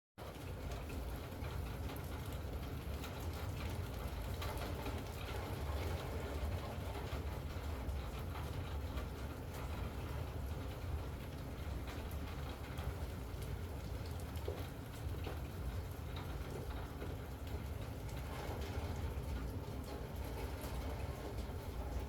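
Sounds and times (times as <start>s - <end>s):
rain: 0.2s - 22.0s.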